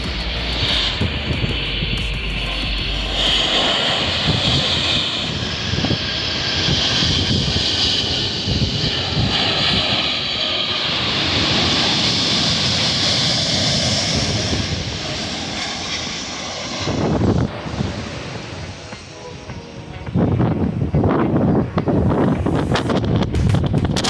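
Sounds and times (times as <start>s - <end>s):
jet engine whine: 0.0s - 24.0s
jet engines rushing: 0.0s - 24.0s.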